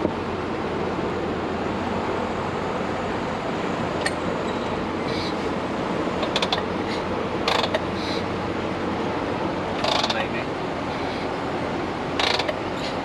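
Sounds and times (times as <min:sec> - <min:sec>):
drum fan blowing: 0:00.0 - 0:13.0.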